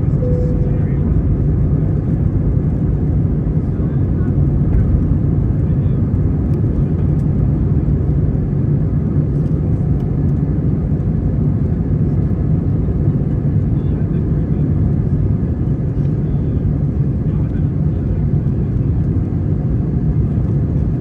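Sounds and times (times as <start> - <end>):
airplane cabin engine rumble: 0.0 - 21.0.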